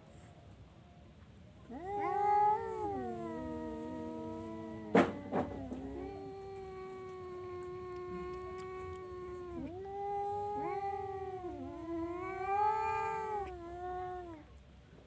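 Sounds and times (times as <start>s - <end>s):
cat yowling: 1.7s - 14.5s.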